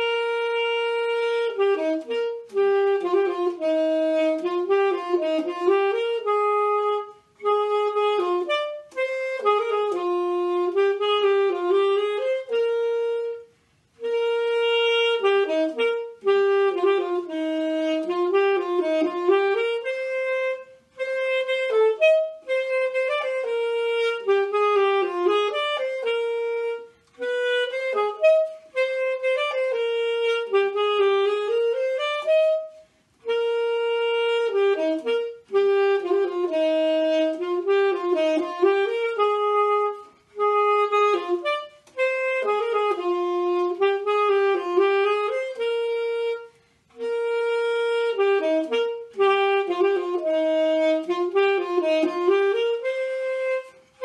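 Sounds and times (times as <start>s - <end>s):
saxophone solo melody: 0.0s - 54.0s.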